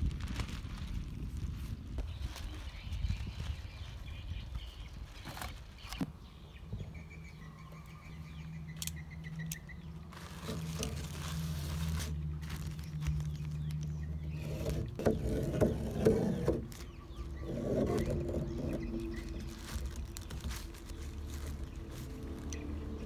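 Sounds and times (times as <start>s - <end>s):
plastic sheeting crinkling: 0.0s - 6.0s, 10.0s - 23.0s
wind rumbling on microphone: 0.0s - 23.0s
bird chirps: 2.1s - 10.2s, 12.7s - 23.0s.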